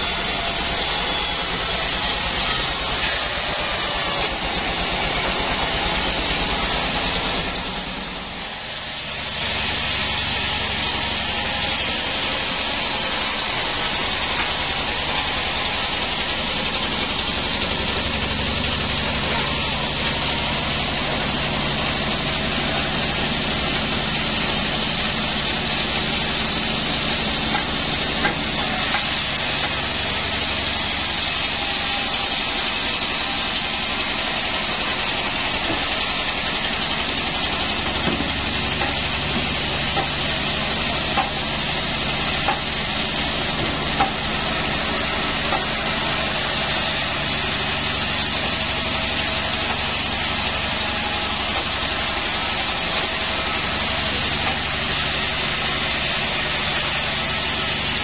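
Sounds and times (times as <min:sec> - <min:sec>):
bandsaw sawing a log: 0:00.0 - 0:58.0.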